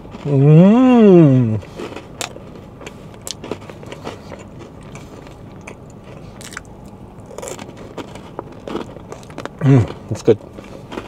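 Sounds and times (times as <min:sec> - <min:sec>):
person biting and chewing cookie: 0:01.3 - 0:11.0.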